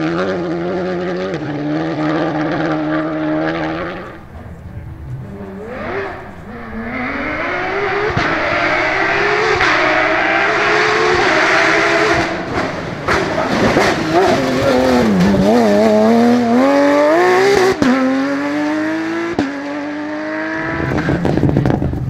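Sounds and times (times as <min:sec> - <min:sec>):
car engine at full throttle: 0:00.0 - 0:22.0
car engine driving away: 0:00.0 - 0:22.0.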